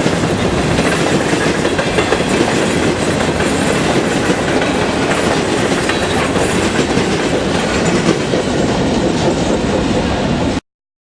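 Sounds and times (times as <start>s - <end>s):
steel wheels clattering over rail joints: 0.0s - 10.5s.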